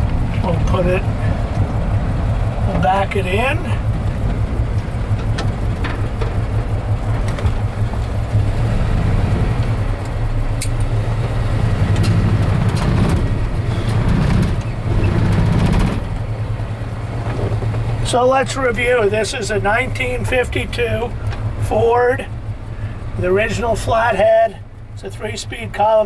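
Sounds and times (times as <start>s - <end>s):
truck engine running at low speed: 0.0s - 26.0s.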